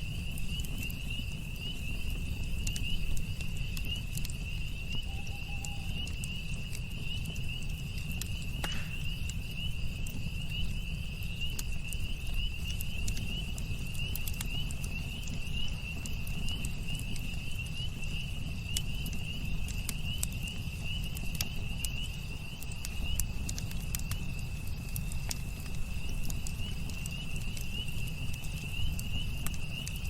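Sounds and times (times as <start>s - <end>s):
campfire crackling and popping: 0.0s - 30.0s
cricket trilling: 0.0s - 30.0s.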